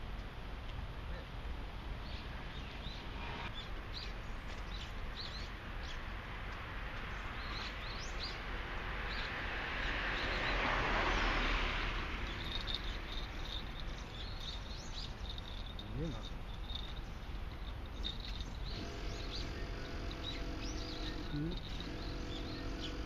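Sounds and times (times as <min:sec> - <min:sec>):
outdoor background noise: 0:00.0 - 0:23.0
small birds chirping: 0:02.0 - 0:06.1, 0:07.0 - 0:23.0.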